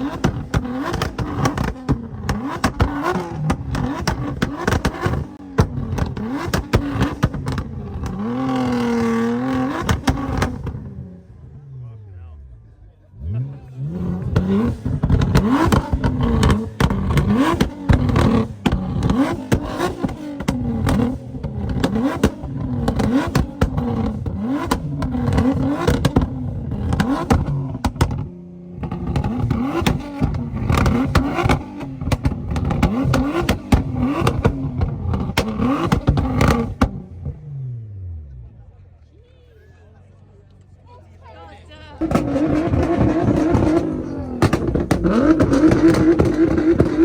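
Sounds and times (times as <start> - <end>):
exhaust pops and bangs: 0.0 - 10.9, 13.9 - 37.4, 42.0 - 47.0
car engine revving: 0.0 - 39.1, 41.7 - 47.0.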